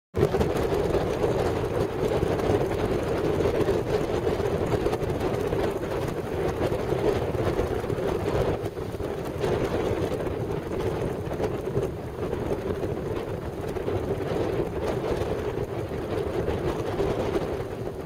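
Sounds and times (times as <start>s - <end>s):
wind buffeting microphone: 0.2s - 18.0s.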